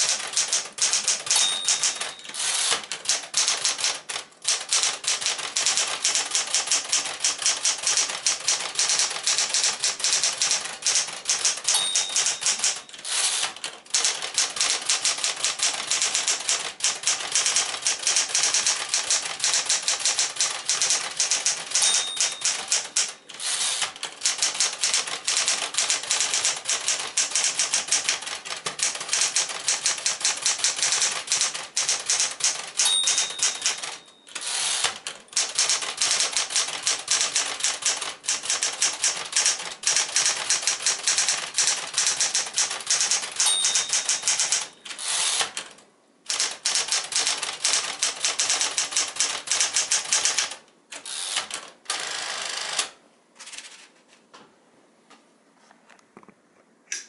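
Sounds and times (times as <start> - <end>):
typewriter margin bell: 0.0 - 45.6, 46.3 - 52.9
manual typewriter typing: 0.0 - 53.9.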